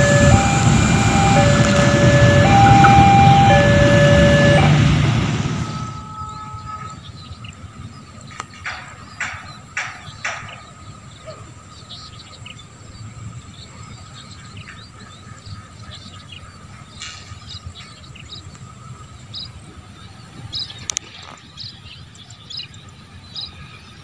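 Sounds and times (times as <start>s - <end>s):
low background rumble: 0.0s - 23.4s
birds chirping: 0.0s - 24.0s.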